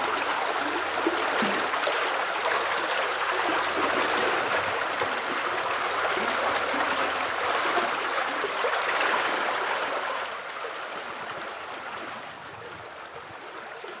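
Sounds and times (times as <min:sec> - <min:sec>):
stream babbling over stones: 0:00.0 - 0:14.0.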